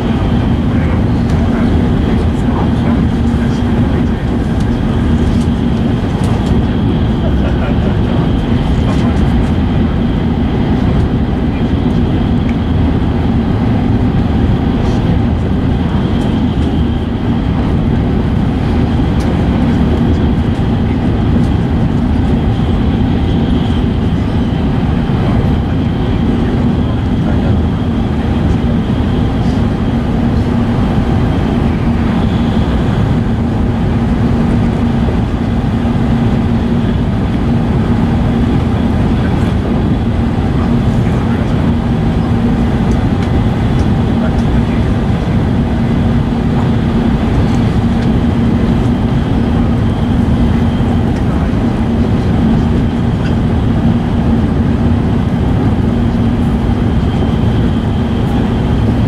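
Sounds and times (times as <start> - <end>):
low hum: 0.0 - 59.0
train running noise: 0.0 - 59.0.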